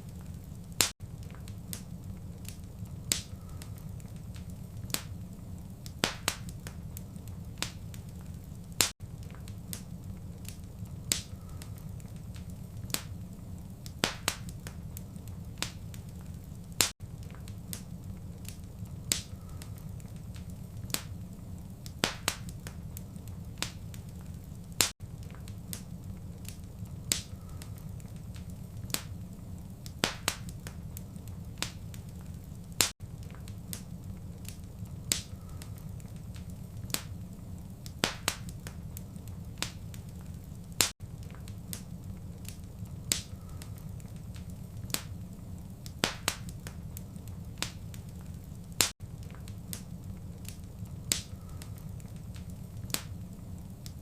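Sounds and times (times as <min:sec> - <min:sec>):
fire pops and snaps: 0:00.0 - 0:54.0
low rumble of burning: 0:00.0 - 0:54.0.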